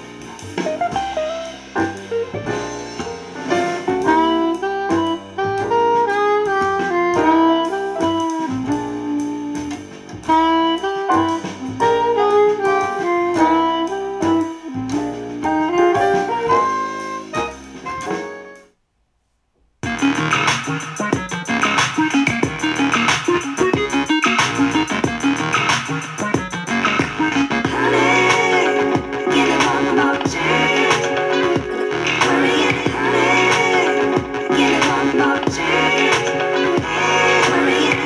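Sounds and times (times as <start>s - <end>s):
instrumental music over speaker: 0.0s - 18.7s, 19.8s - 38.0s.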